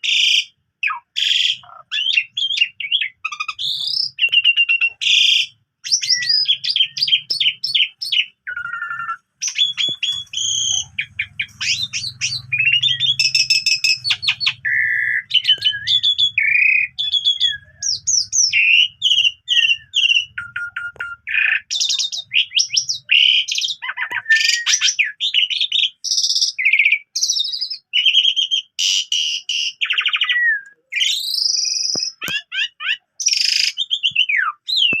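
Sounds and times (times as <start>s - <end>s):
starling singing: 0.0s - 35.0s.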